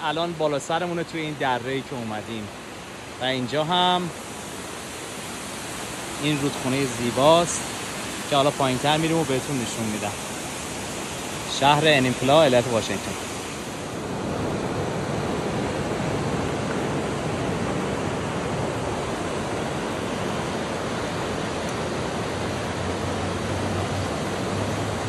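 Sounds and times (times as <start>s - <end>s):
river rushing over rapids: 0.0s - 25.0s.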